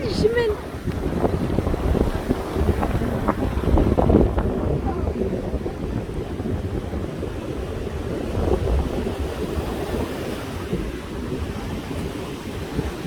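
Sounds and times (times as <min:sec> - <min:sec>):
sea surf rushing: 0:00.0 - 0:13.0
wind buffeting microphone: 0:00.0 - 0:13.0.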